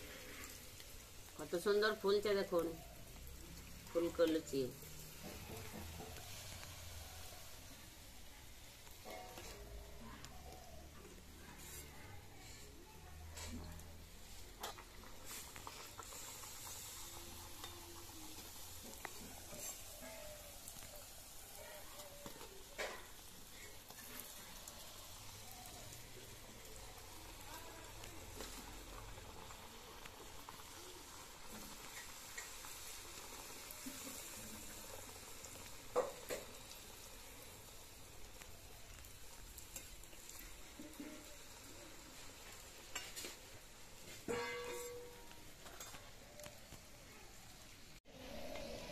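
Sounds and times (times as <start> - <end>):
dough sizzling in hot oil: 0.0 - 48.9.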